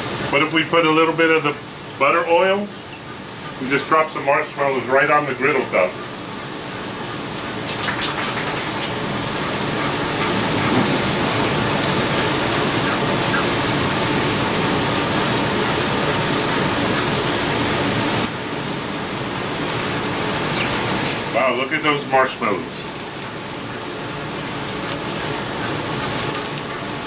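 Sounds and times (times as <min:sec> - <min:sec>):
meat sizzling on a griddle: 0:00.0 - 0:27.0.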